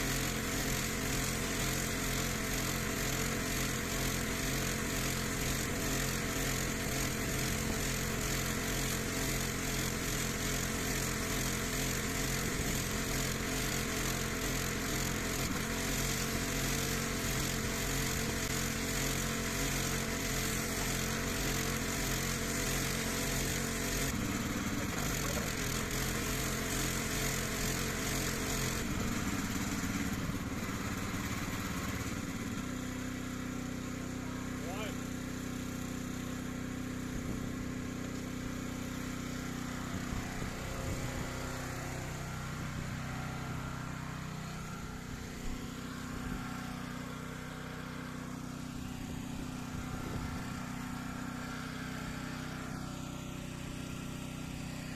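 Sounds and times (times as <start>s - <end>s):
pressure washer engine droning: 0.0s - 54.9s.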